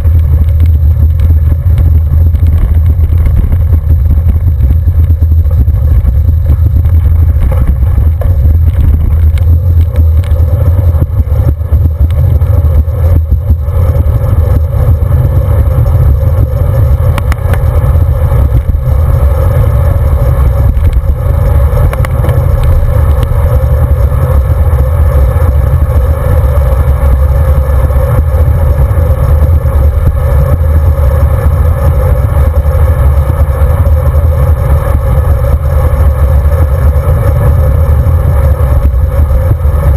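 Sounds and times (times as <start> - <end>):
bike tyres rolling: 0.0 - 39.9
wind rushing over microphone: 0.0 - 39.9.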